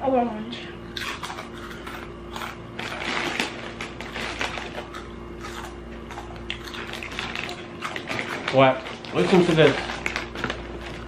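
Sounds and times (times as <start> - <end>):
steady low hum: 0.0 - 11.0
crunchy snack being chewed: 0.9 - 11.0.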